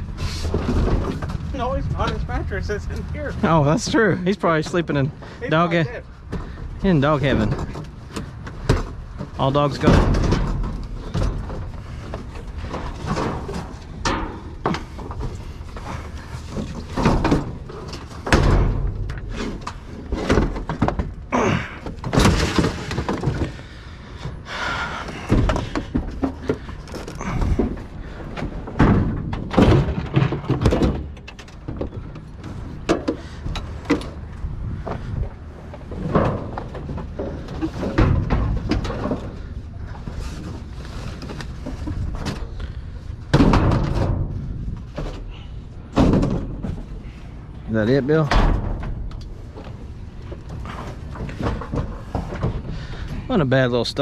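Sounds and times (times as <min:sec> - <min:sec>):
trash rummaged in dumpster: 0:00.0 - 0:02.3, 0:06.4 - 0:53.4.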